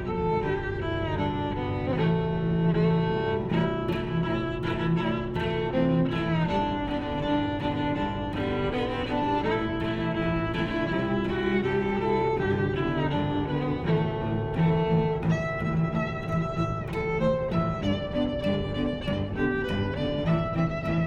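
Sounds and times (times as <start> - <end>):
bowed strings sustained notes: 0.0 - 21.0.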